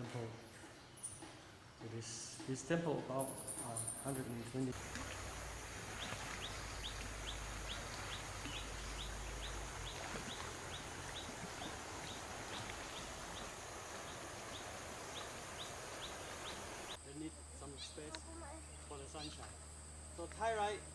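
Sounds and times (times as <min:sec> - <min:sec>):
outdoor background noise: 0:00.0 - 0:20.9.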